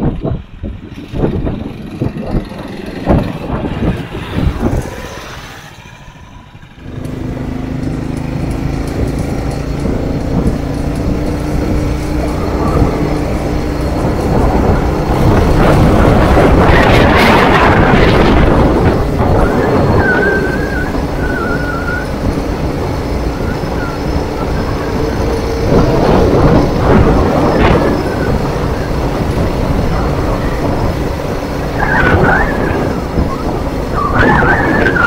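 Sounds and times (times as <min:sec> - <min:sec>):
all-terrain vehicle engine running: 0:00.0 - 0:35.0.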